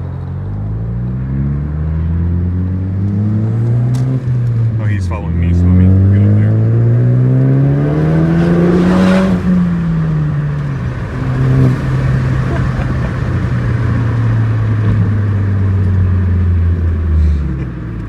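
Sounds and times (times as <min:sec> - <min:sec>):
car engine revving and droning: 0:00.0 - 0:18.0.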